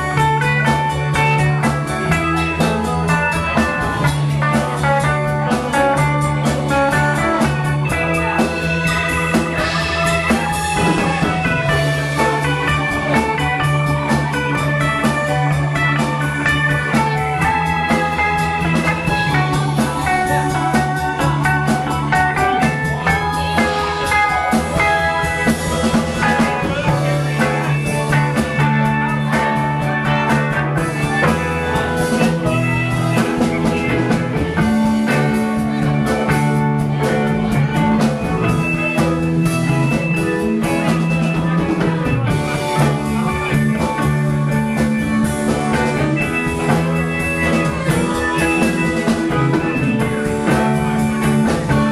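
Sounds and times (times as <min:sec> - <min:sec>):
rock band playing: 0:00.0 - 0:51.9.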